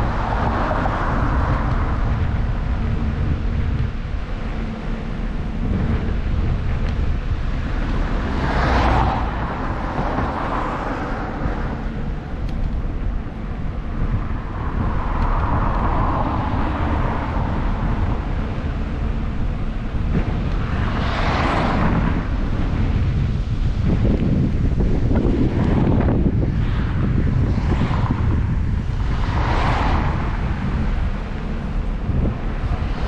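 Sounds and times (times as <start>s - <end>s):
cars passing: 0.0s - 33.0s
wind rumbling on microphone: 0.0s - 33.0s.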